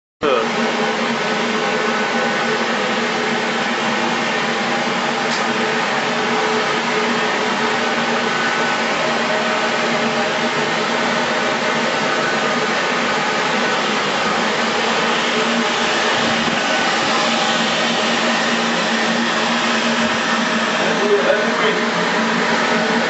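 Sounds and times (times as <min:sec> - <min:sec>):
washing machine running: 0:00.2 - 0:23.0.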